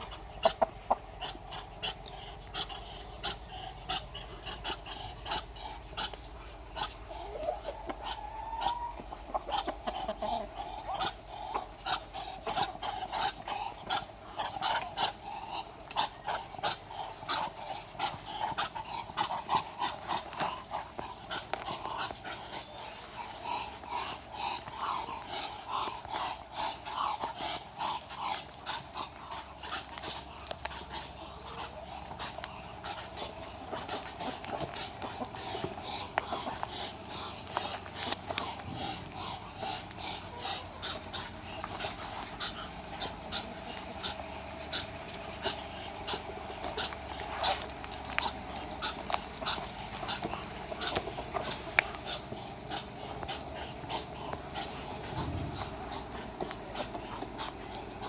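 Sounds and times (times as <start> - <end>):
ducks hissing: 0.0 - 58.0.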